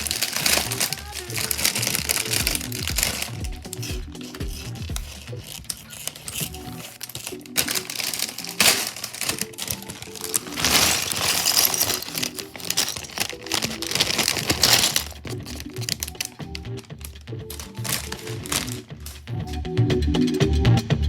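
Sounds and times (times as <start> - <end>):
plastic pieces clicking: 0.0 - 19.5
plastic bags crinkling: 0.0 - 19.6
background music: 0.0 - 21.0.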